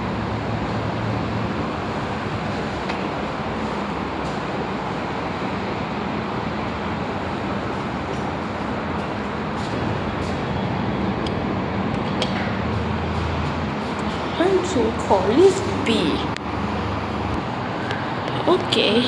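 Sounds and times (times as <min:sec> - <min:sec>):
lift car descending: 0:00.0 - 0:18.5.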